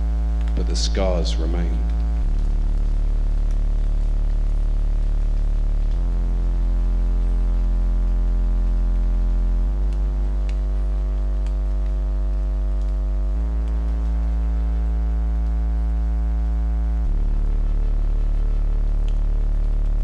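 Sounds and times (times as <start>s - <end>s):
deep bass drone: 0.0s - 20.0s
synthesizer chords: 0.0s - 20.0s.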